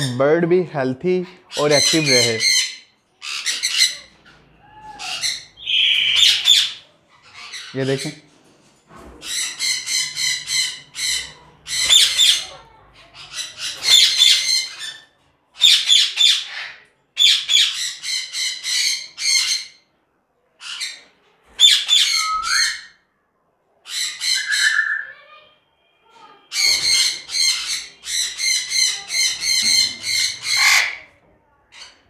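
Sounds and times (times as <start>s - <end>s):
parrots squawking: 1.2s - 8.2s, 9.2s - 19.9s, 20.6s - 23.0s, 23.8s - 25.5s, 26.2s - 31.2s.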